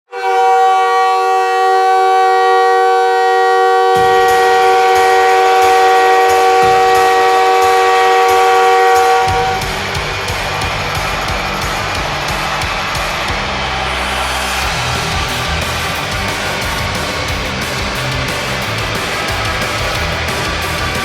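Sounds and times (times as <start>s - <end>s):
goal horn blasting chord: 0.1s - 21.0s
goal song music: 4.0s - 21.0s.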